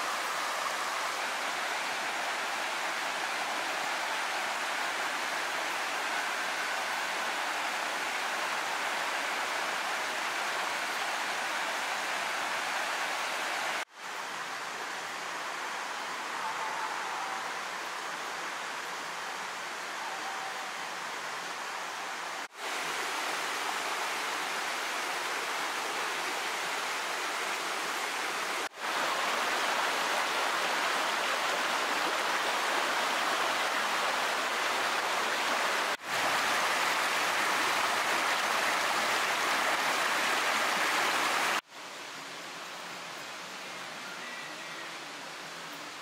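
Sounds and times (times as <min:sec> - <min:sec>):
stream rushing over rocks: 0:00.0 - 0:46.0.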